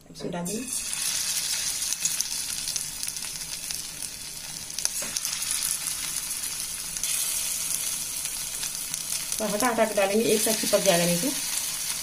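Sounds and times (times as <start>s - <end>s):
chicken sizzling in hot oil: 0.5s - 12.0s.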